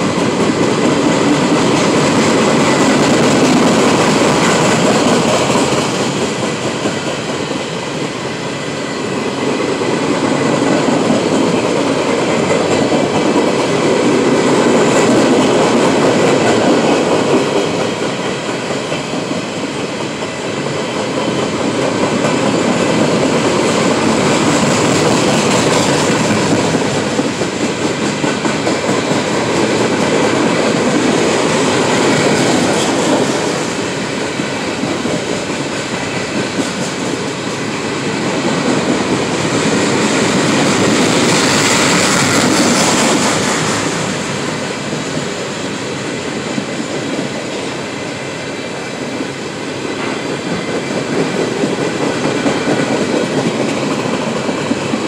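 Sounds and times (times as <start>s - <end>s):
freight train wheels clattering on rails: 0.0s - 55.0s.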